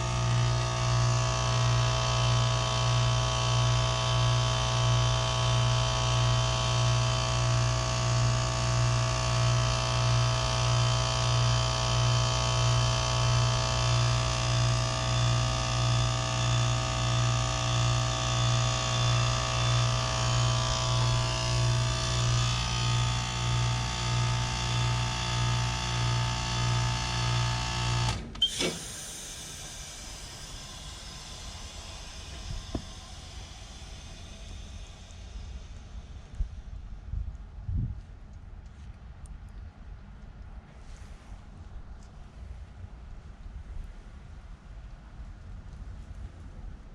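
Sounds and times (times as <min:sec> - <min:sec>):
heat pump humming and throbbing: 0:00.0 - 0:46.9.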